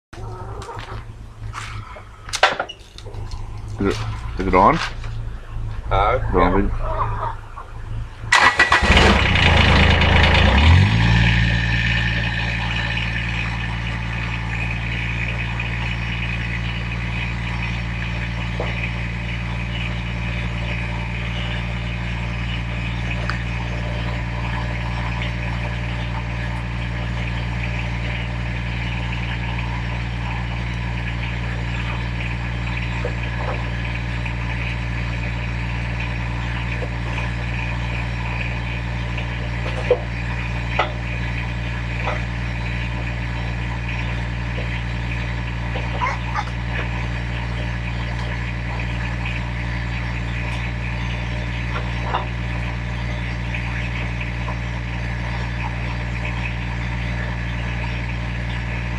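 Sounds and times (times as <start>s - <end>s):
engine starting and idling: 0.4s - 58.9s.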